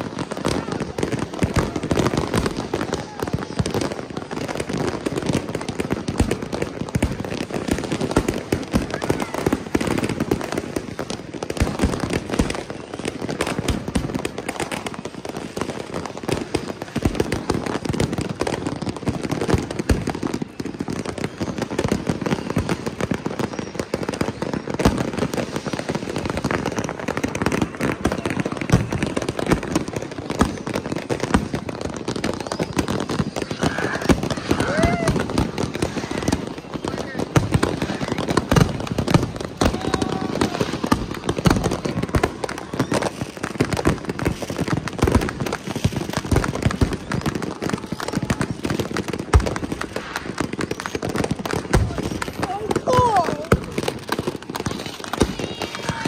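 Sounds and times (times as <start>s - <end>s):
fireworks and firecrackers banging: 0.0s - 56.0s.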